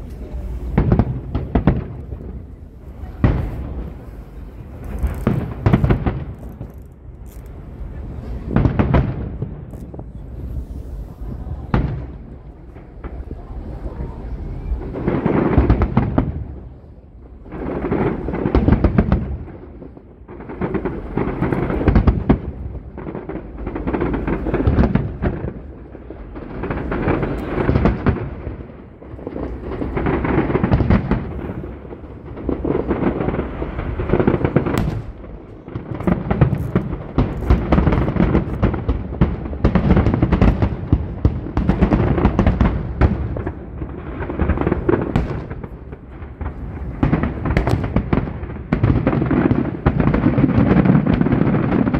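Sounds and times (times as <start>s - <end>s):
fireworks exploding and crackling: 0.0s - 51.9s.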